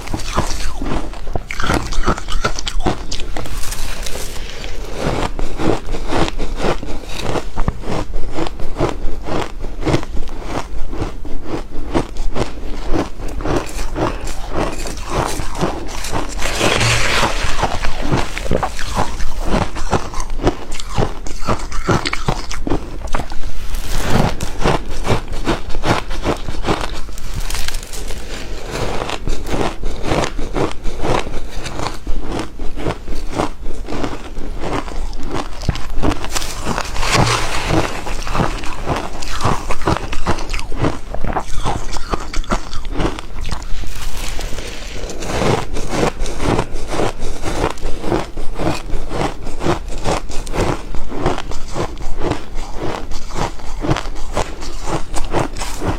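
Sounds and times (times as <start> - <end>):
ice being chewed: 0.0 - 55.9.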